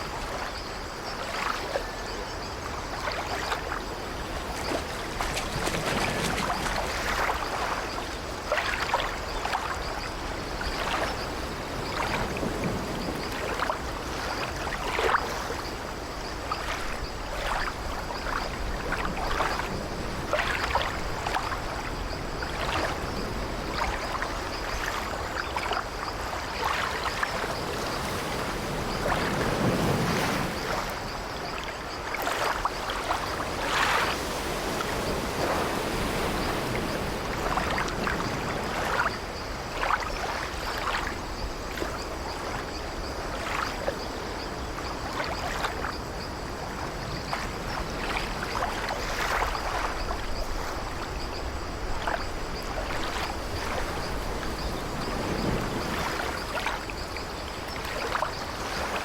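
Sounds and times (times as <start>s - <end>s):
sea waves washing against ship: 0.0s - 59.0s.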